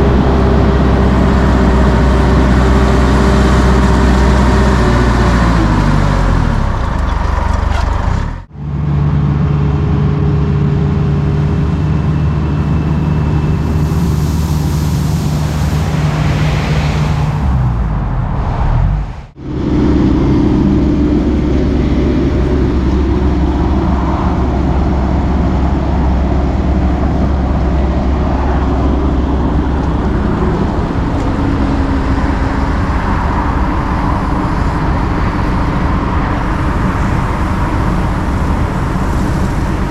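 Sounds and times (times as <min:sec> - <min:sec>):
diesel engine running under work: 0:00.0 - 0:18.1, 0:19.3 - 0:39.9.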